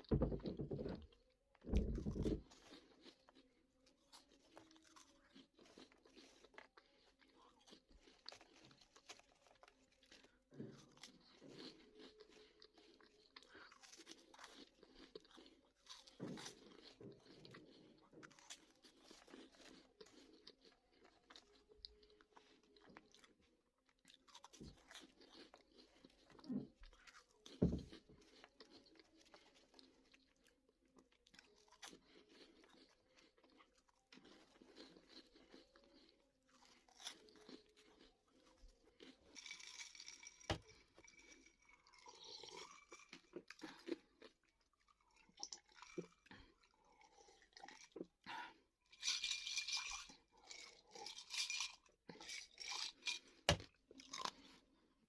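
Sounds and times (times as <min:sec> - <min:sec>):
person chewing crunchy snacks: 0:00.0 - 0:55.0.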